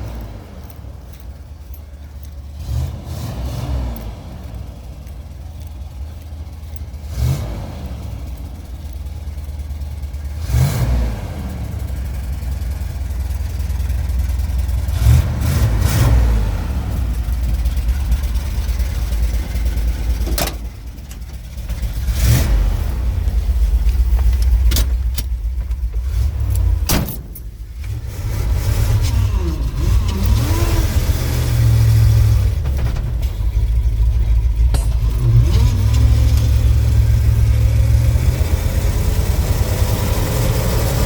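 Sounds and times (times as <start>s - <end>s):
pickup engine revving: 2.2s - 41.0s.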